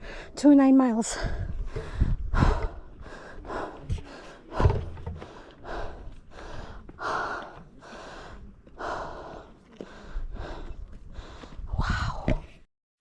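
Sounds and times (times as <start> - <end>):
person breathing hard: 1.2 - 12.5.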